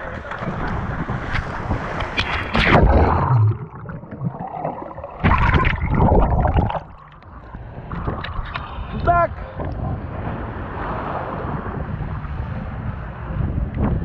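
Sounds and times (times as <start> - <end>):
splashing surf: 0.0 - 14.0
wind on microphone: 0.0 - 14.0.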